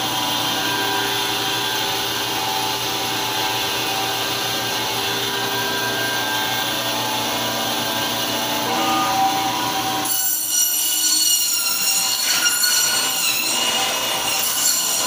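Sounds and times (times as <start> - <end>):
electric band saw whirring: 0.0 - 15.0.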